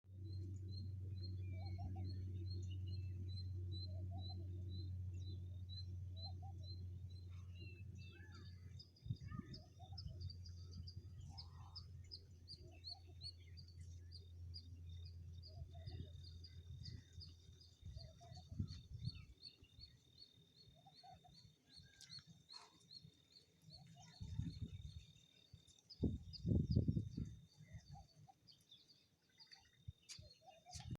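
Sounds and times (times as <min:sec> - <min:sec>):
low hum: 0:00.0 - 0:29.7
birds chirping: 0:00.2 - 0:30.9.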